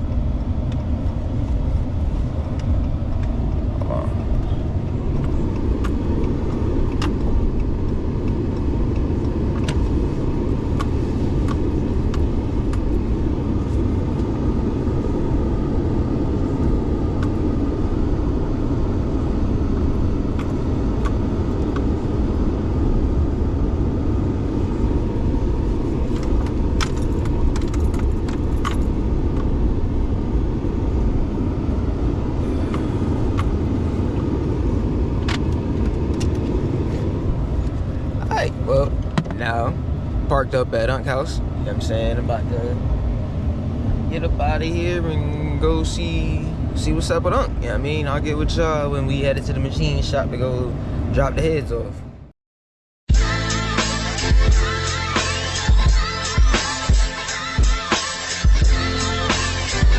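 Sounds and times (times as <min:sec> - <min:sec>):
truck cabin low rumble: 0:00.0 - 0:52.3, 0:53.1 - 0:59.9.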